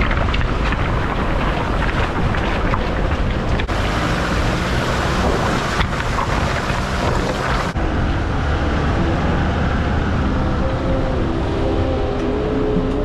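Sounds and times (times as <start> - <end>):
low vehicle rumble: 0.0 - 13.0
wind on microphone: 0.0 - 13.0.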